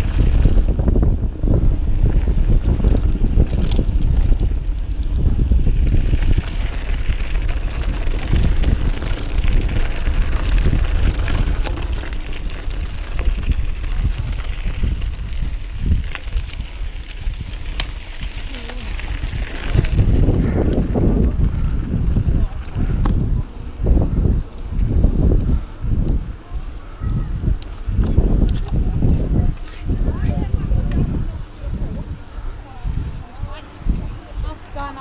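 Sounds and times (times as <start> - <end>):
bike rattling over bumps: 0.0 - 35.0
wind buffeting microphone: 0.0 - 35.0.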